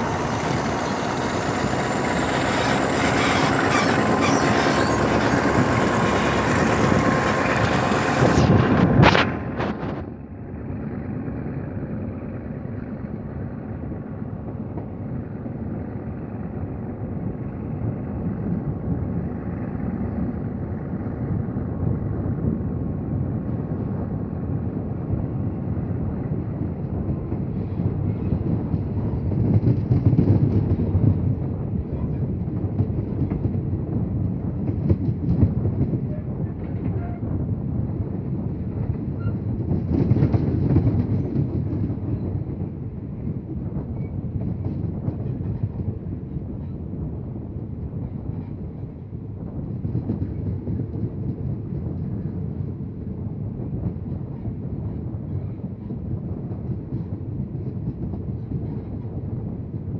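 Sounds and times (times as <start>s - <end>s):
low train rumble: 0.0s - 59.9s
train clattering on rails: 0.0s - 59.9s.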